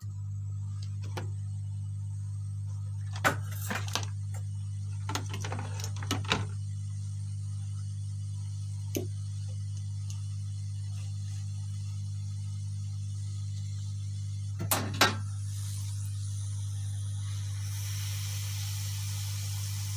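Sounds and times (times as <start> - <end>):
low electrical hum: 0.0 - 19.9.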